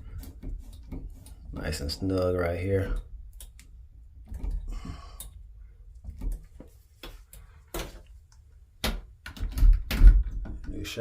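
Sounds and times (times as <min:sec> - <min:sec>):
shower hose fittings clicking and tapping: 0:00.0 - 0:11.0.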